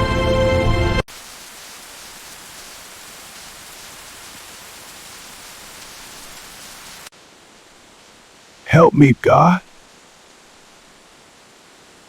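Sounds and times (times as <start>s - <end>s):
steady hiss: 1.1s - 12.0s.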